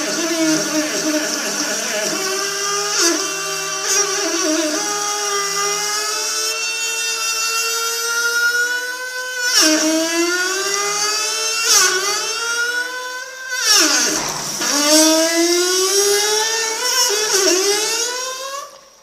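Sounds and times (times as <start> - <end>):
plumbing whining tone: 0.0 - 18.9.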